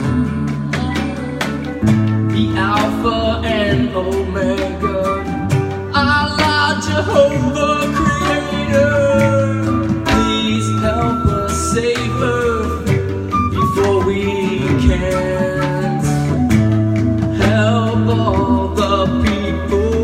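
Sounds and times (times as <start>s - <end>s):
acoustic guitar: 0.0s - 20.0s
person singing: 0.0s - 20.0s.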